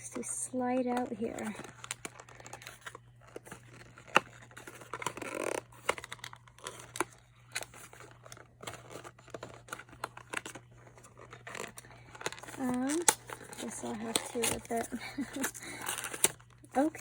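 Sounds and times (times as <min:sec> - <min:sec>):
packaging rustling and crinkling: 0:00.1 - 0:17.0.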